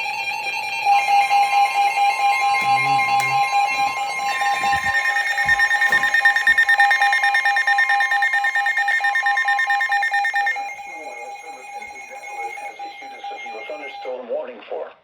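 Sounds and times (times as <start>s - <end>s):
pulsing alarm tone: 0.0s - 14.3s.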